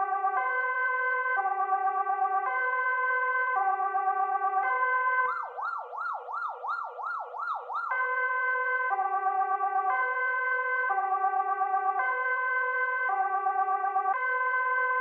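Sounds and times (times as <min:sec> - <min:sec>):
police siren: 0:00.0 - 0:15.0.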